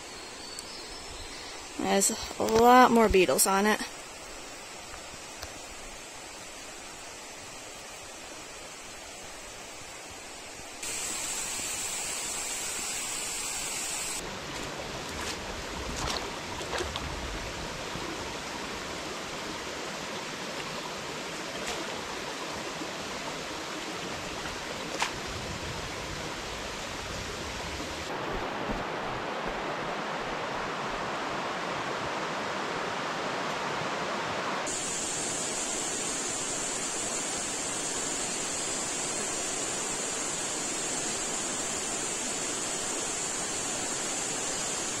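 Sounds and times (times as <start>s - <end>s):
stream rushing over rocks: 0.6s - 45.0s.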